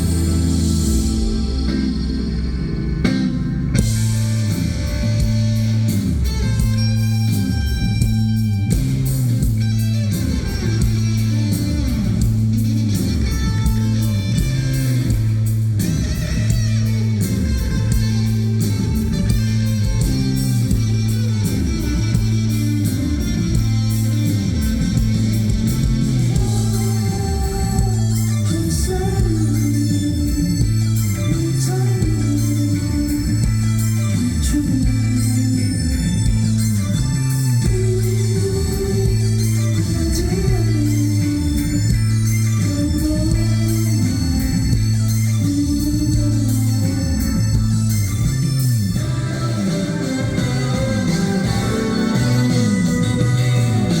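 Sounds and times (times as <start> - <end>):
electric guitars: 0.0 - 54.0
repeating bass line: 0.0 - 54.0
steady drum beat: 0.0 - 54.0.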